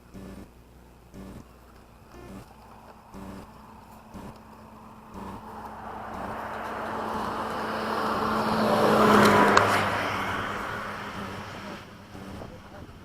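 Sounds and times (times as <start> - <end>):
steady low hum: 0.0 - 13.0
rushing noise passing by: 2.0 - 12.6.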